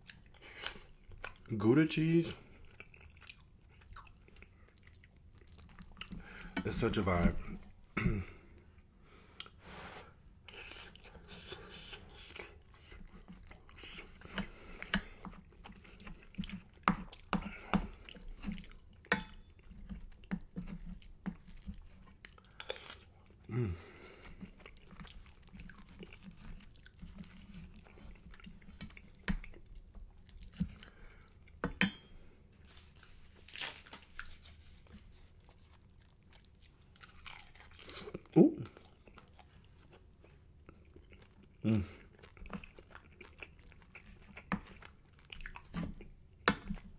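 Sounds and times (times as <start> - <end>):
close chewing with mouth clicks: 0.0 - 7.8, 8.5 - 31.6, 32.8 - 46.9.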